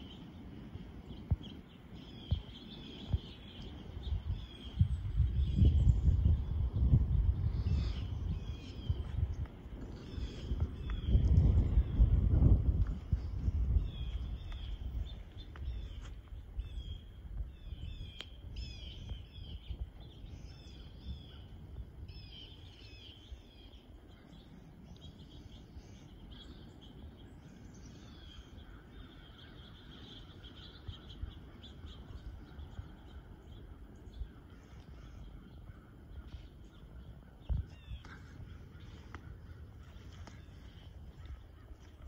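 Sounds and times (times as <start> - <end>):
birds chattering: 0.0 - 42.0
low steady rumble: 0.0 - 42.0.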